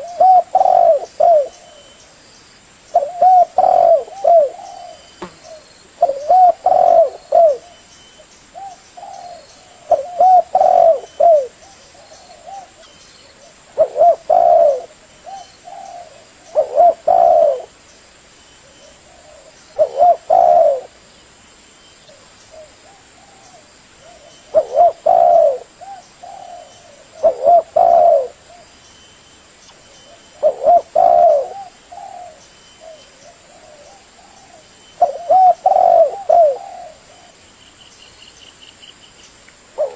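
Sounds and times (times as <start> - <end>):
dove cooing: 0.0 - 2.0, 2.9 - 7.9, 8.6 - 17.8, 18.6 - 21.0, 22.1 - 28.7, 30.0 - 37.4.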